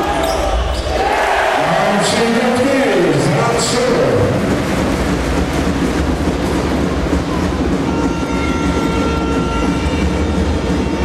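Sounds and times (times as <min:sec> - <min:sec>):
arena crowd noise: 0:00.0 - 0:11.0.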